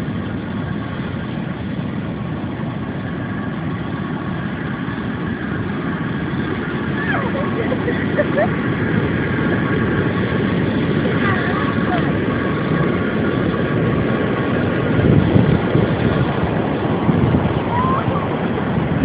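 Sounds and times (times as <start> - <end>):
ocean surf: 0.0 - 19.0
wind on microphone: 0.0 - 19.0.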